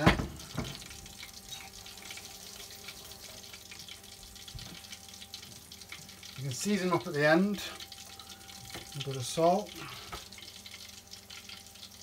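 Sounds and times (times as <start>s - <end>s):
prawns deep-frying in hot oil: 0.0s - 12.0s.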